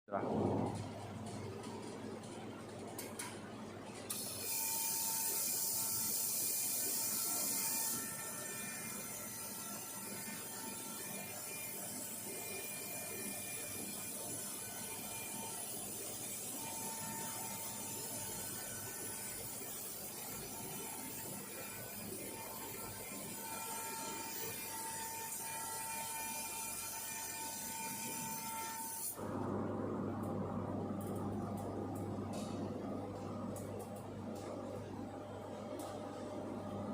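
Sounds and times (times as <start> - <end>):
laser welding machine running: 0.2 - 36.9.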